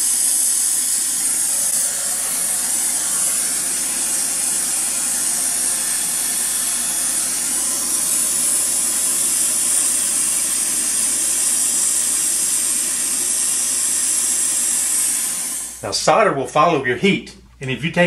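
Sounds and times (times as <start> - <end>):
torch flame hissing: 0.0 - 16.2.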